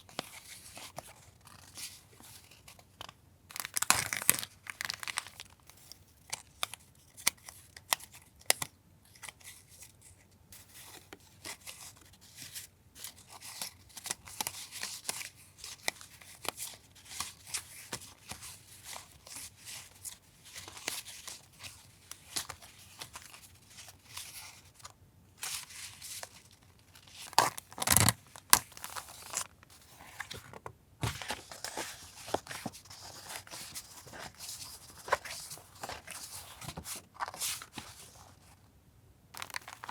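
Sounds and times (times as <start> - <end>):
packaging crinkling and rustling: 0.1 - 6.7, 13.2 - 38.6, 39.4 - 39.9.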